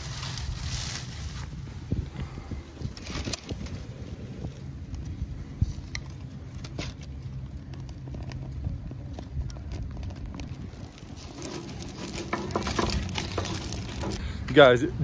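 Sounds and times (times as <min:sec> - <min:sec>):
dry palm fronds rustling and crackling: 0:00.0 - 0:14.8.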